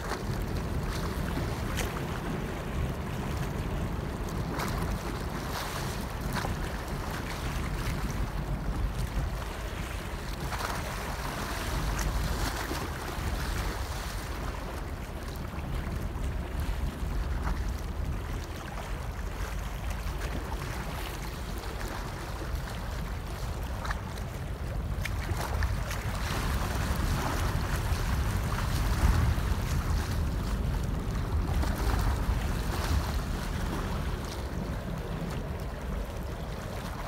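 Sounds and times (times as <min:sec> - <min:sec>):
choppy water washing: 0:00.0 - 0:37.0
wind buffeting microphone: 0:00.0 - 0:37.0.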